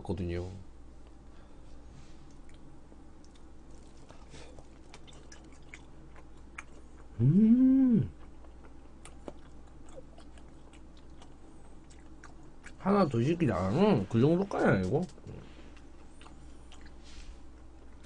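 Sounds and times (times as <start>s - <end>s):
man chewing food: 1.0s - 18.0s
hummed mmm: 3.2s - 18.0s.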